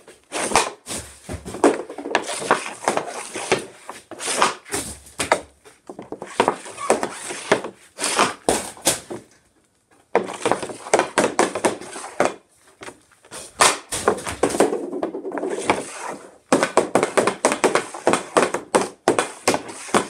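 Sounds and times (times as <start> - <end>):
hockey stick hitting puck: 0.0 - 9.3, 10.1 - 20.0
puck and blade scraping tile: 0.0 - 9.3, 10.1 - 20.0.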